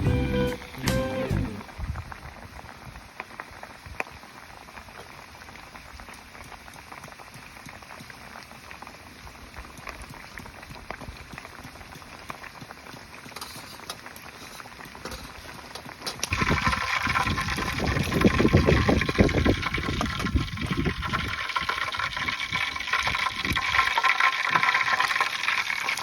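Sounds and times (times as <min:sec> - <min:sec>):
food sizzling over campfire: 0:00.0 - 0:26.0.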